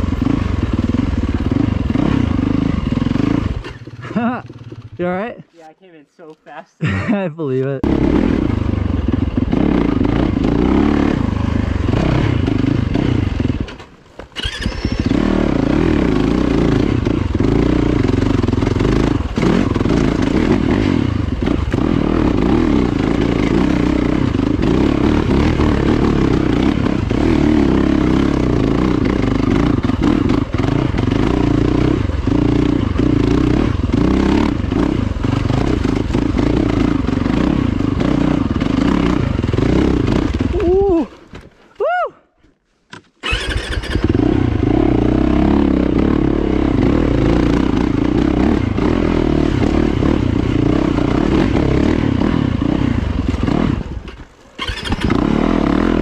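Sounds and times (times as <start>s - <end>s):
dirt bike engine revving: 0.0s - 5.4s, 7.8s - 13.8s, 14.4s - 41.0s, 43.2s - 56.0s.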